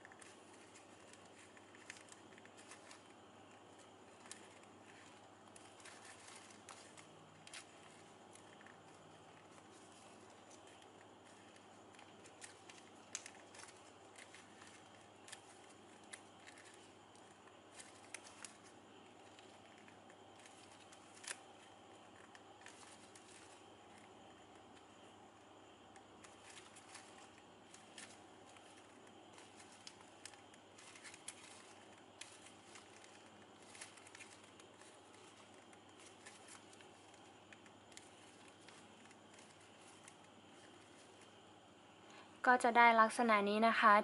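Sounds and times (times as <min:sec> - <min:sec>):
ribbon crinkling and clicking: 0:00.0 - 0:42.2
low steady hiss: 0:00.0 - 0:44.0.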